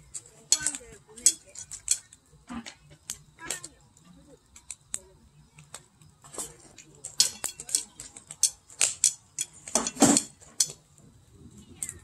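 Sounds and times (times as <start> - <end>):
firewood crackling and popping: 0.0 - 12.0.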